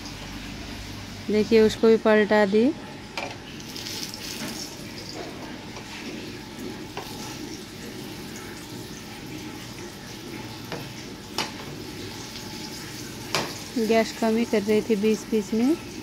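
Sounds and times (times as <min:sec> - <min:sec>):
frying sizzle: 0:00.0 - 0:16.0.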